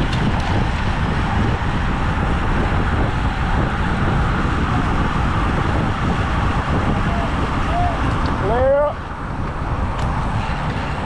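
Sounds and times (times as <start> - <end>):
road noise: 0.0 - 11.0
wind rush on microphone: 0.0 - 11.0.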